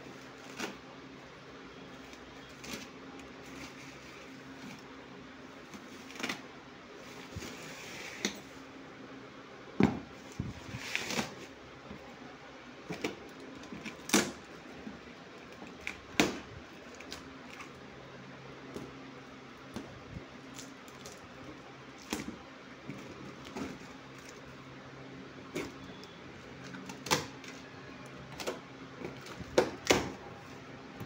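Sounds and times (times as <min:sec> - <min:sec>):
faint steady hum: 0:00.0 - 0:31.0
cardboard and plastic rustling: 0:01.9 - 0:08.6, 0:09.8 - 0:18.0, 0:18.6 - 0:31.0.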